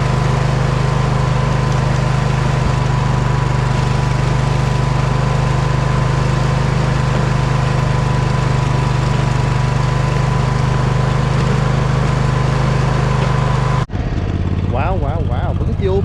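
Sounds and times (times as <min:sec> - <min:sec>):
riding mower engine running: 0:00.0 - 0:16.0.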